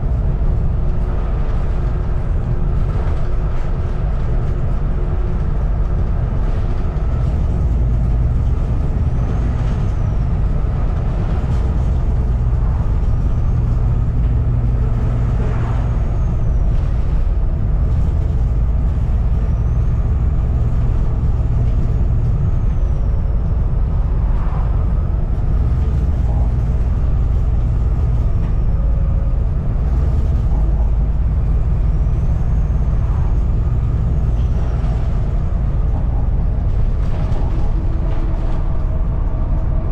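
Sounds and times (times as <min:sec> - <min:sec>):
bus body rattling: 0:00.0 - 0:39.9
diesel bus engine running: 0:00.0 - 0:39.9.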